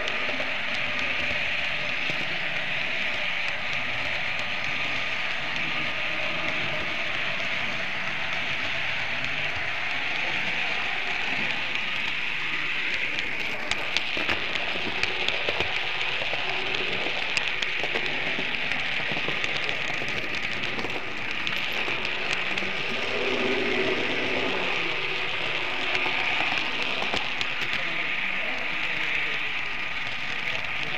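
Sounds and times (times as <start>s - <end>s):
model train wheels and motor hiss: 0.0s - 30.9s.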